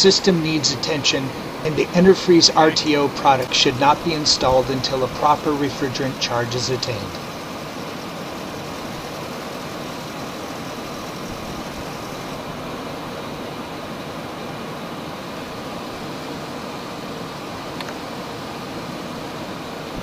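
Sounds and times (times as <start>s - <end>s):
air conditioning compressor: 0.0s - 20.0s.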